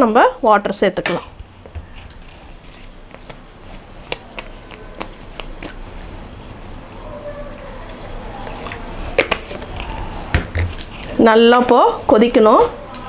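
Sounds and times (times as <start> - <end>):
gravy simmering: 1.4 - 13.0.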